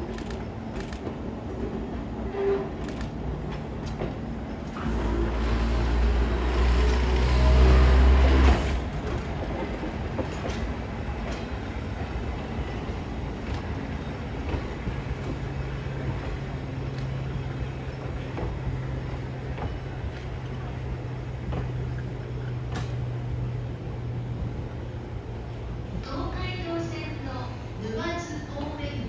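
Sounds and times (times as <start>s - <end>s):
train running noise: 0.0s - 29.0s.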